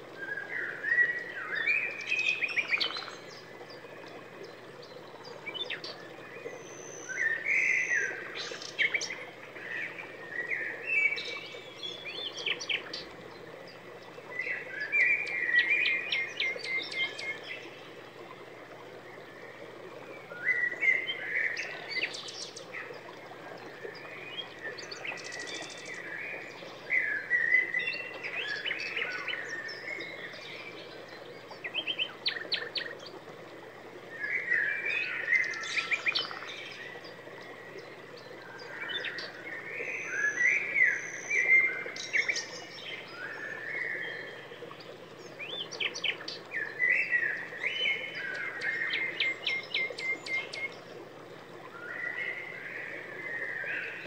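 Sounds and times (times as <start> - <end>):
songbird singing: 0.1 - 54.0.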